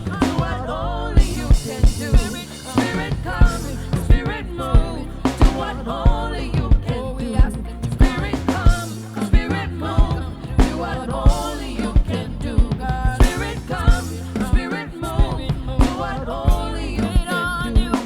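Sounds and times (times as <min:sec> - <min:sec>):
bass and sustained chords: 0:00.0 - 0:18.0
drum kit beat: 0:00.0 - 0:18.0
people singing: 0:00.0 - 0:18.0.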